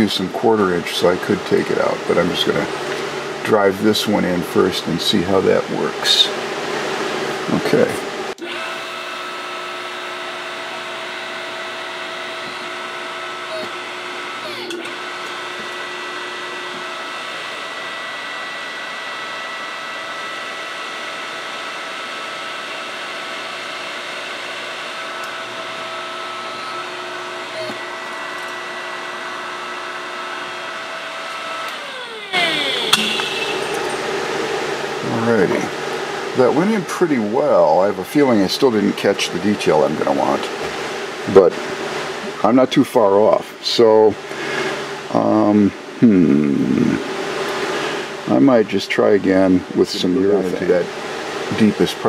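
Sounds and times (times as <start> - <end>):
hydraulic pump humming: 0.0 - 52.0.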